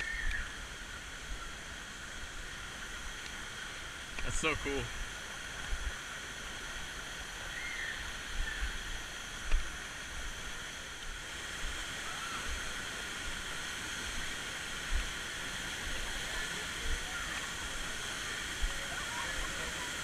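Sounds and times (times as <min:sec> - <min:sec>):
river and waterfall rushing: 0:00.0 - 0:20.0.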